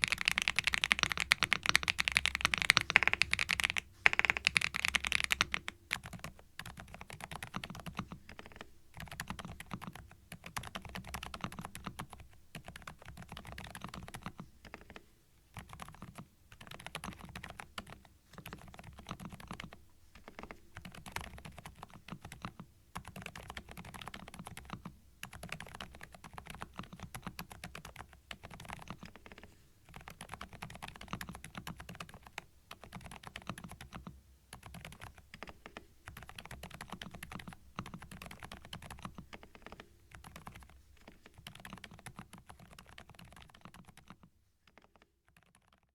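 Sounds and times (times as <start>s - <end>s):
typing on mechanical keyboard: 0.0s - 45.9s.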